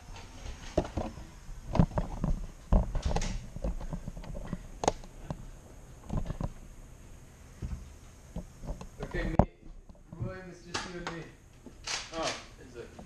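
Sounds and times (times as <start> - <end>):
footsteps: 0.0 - 11.8.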